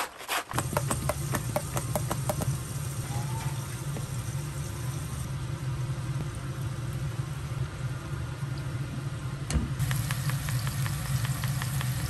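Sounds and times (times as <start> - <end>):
low hum with hiss: 0.6 - 12.0.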